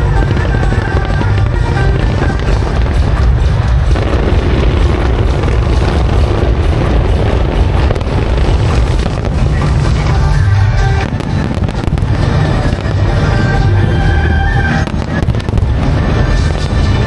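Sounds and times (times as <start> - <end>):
faint music: 0.0 - 17.0
fireworks booming: 0.0 - 17.0
fireworks crackling: 0.0 - 17.0.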